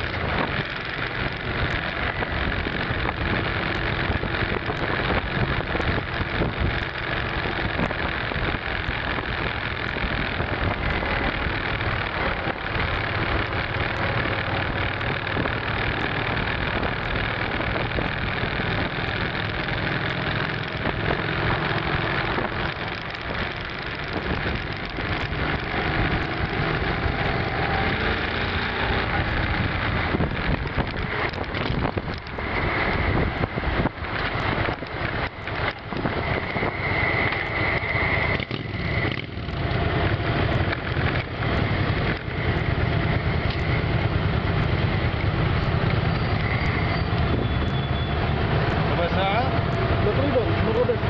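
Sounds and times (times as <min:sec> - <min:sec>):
motorcycle engine running: 0:00.0 - 0:51.0
road and wind noise: 0:00.0 - 0:51.0.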